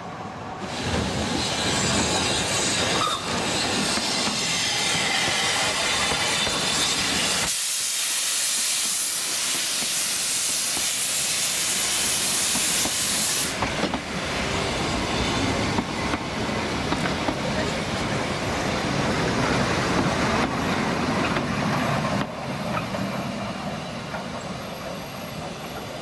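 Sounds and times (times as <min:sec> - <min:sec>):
steam locomotive venting steam: 0:00.6 - 0:26.0
train clicking along track: 0:00.6 - 0:26.0.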